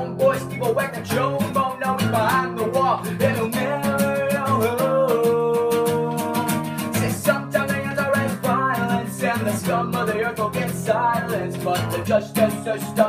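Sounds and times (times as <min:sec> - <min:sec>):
man singing: 0:00.0 - 0:13.0
strummed acoustic guitar: 0:00.0 - 0:13.0.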